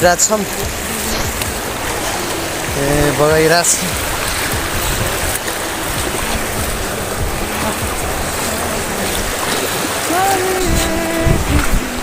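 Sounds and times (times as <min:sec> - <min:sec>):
rocky stream rushing: 0:00.0 - 0:12.0.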